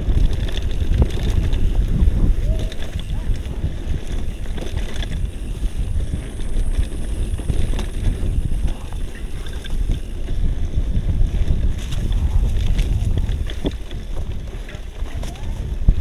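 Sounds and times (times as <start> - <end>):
bike rolling on trail: 0.0 - 16.0
wind buffeting microphone: 0.0 - 16.0.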